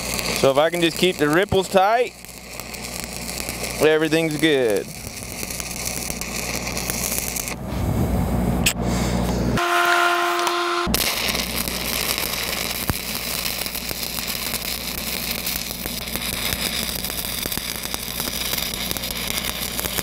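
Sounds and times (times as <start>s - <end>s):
welding arc crackling: 0.0s - 7.6s, 9.6s - 20.0s
steady humming tone: 0.0s - 20.0s.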